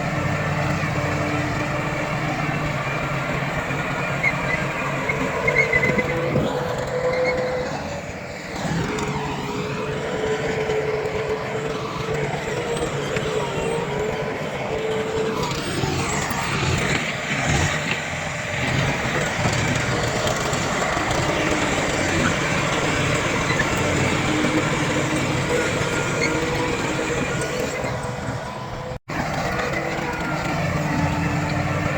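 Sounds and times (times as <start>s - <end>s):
heavy diesel machinery engines: 0.0s - 31.9s.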